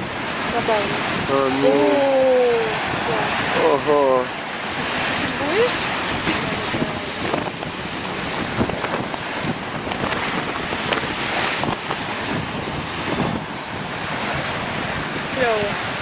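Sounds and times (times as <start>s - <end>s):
large waves breaking: 0.0s - 16.0s
wind buffeting microphone: 0.0s - 16.0s.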